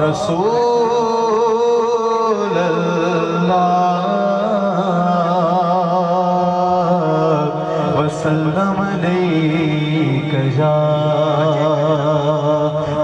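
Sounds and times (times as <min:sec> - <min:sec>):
man chanting through loudspeaker: 0:00.0 - 0:13.0.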